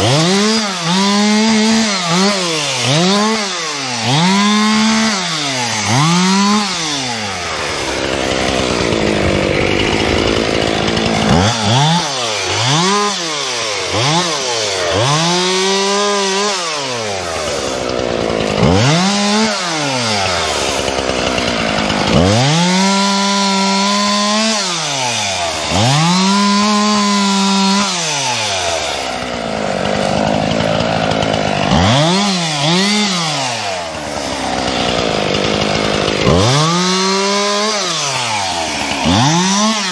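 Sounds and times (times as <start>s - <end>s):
chainsaw cutting through wood: 0.0s - 39.9s
chainsaw revving: 0.0s - 39.9s.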